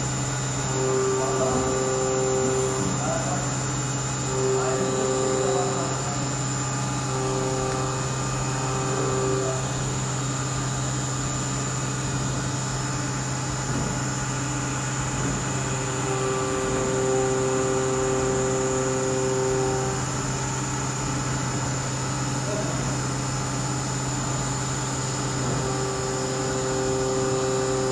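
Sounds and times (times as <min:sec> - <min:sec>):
lathe humming and whining: 0:00.0 - 0:27.9.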